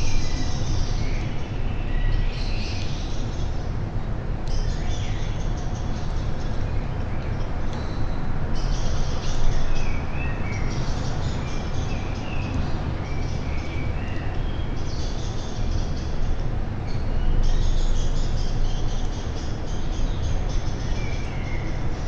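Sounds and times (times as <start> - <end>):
songbirds singing and twittering: 0.0 - 22.0.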